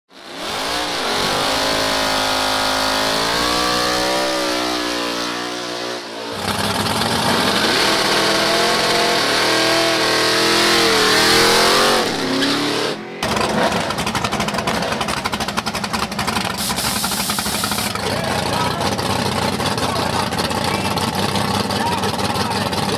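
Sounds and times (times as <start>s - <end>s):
race car engines revving: 0.1s - 22.9s.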